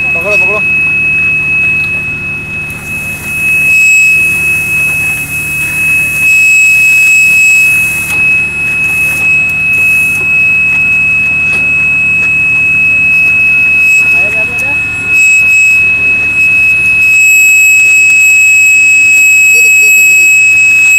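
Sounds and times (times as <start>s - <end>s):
high-pitched electronic buzzer: 0.0s - 20.9s
low machine hum: 0.0s - 20.9s.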